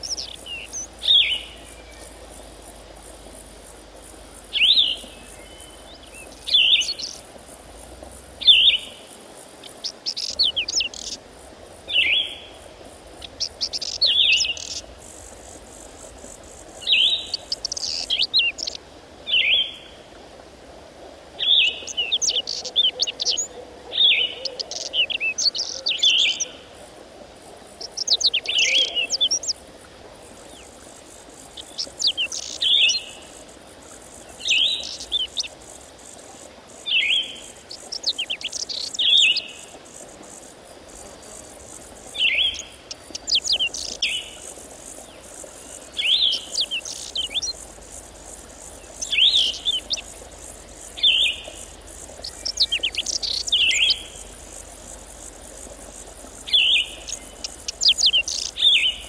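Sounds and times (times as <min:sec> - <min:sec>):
songbird singing: 0:00.0 - 0:11.2, 0:11.8 - 0:20.0, 0:21.4 - 0:26.7, 0:27.7 - 0:29.6, 0:30.3 - 0:59.0.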